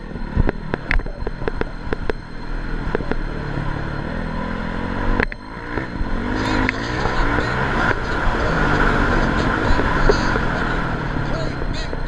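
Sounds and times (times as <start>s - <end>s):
motocross bike engine: 0.0s - 12.0s.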